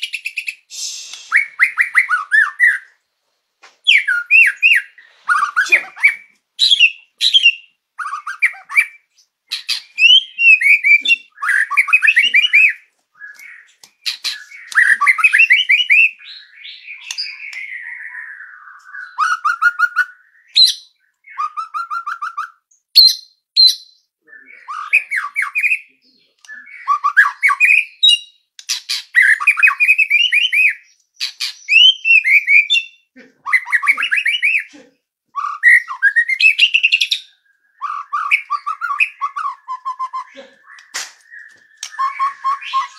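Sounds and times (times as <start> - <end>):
bird singing whistles and trills: 0.0 - 3.0, 3.8 - 34.7, 35.4 - 42.9.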